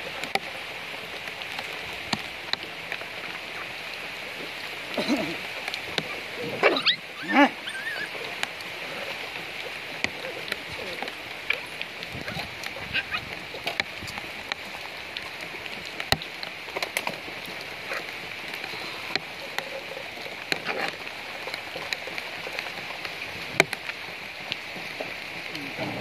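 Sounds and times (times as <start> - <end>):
dogs eating and lapping: 1.4 - 26.0.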